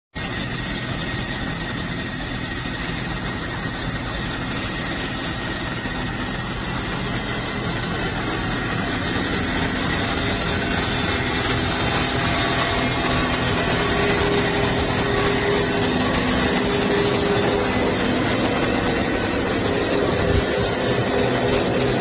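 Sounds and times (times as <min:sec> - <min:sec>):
faint high whine: 0:00.2 - 0:22.0
machinery low hum: 0:00.2 - 0:22.0.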